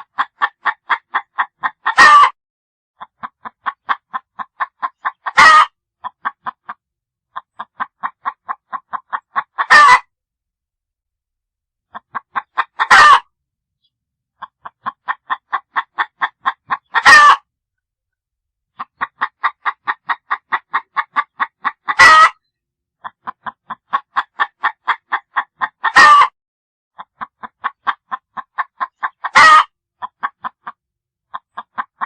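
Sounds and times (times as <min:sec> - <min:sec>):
chicken clucking and squawking: 0:00.0 - 0:02.4, 0:03.0 - 0:10.1, 0:11.9 - 0:13.3, 0:14.4 - 0:17.5, 0:18.7 - 0:26.3, 0:27.0 - 0:32.0.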